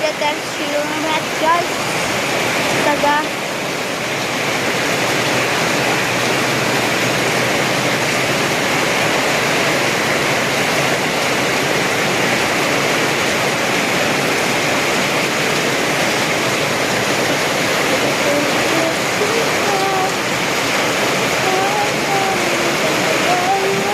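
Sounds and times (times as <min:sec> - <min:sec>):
heavy rain: 0:00.0 - 0:23.9
rushing water: 0:00.0 - 0:23.9.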